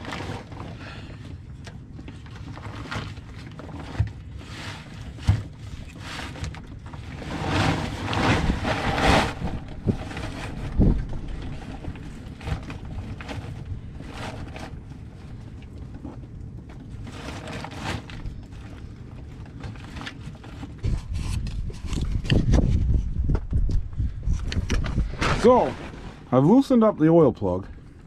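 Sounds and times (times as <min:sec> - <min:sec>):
light clicks and scrapes: 0:00.0 - 0:23.1
rustling and scraping: 0:00.0 - 0:27.0.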